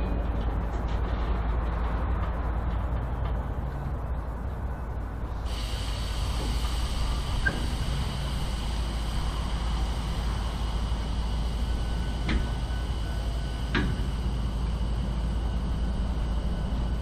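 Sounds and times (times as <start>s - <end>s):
diesel train rumble: 0.0s - 17.0s
high whine: 1.4s - 17.0s.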